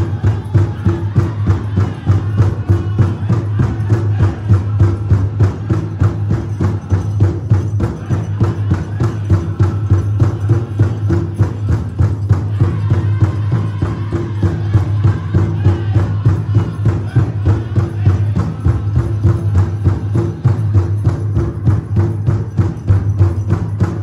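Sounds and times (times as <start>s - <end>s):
big drum beaten in fast rhythm: 0.0s - 24.0s.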